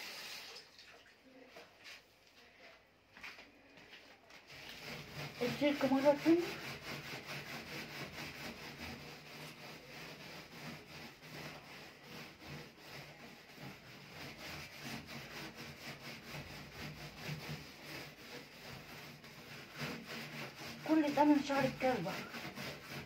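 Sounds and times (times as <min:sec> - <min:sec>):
steel wool scrubbing: 0:04.3 - 0:23.0.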